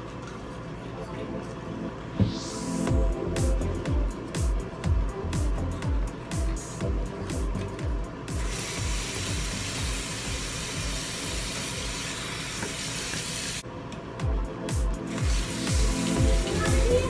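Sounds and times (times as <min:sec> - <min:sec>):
background music with steady beat: 0:01.0 - 0:12.1, 0:13.6 - 0:17.0.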